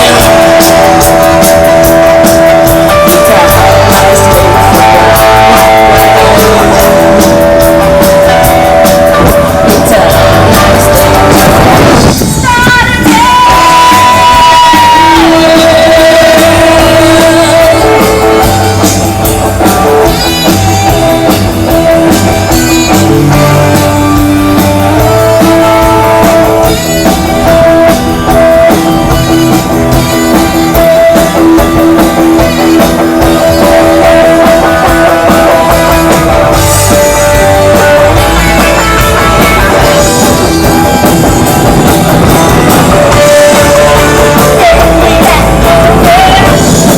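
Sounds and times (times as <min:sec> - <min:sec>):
person singing: 0:00.0 - 0:46.9
rock band playing loudly: 0:00.0 - 0:46.9.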